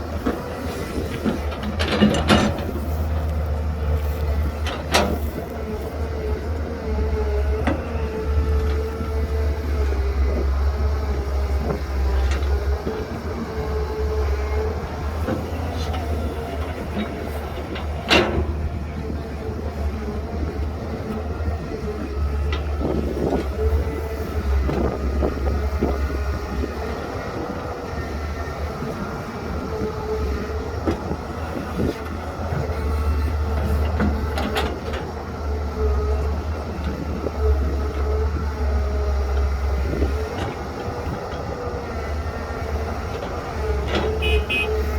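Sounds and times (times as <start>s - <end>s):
diesel engine rumble: 0.0s - 44.9s.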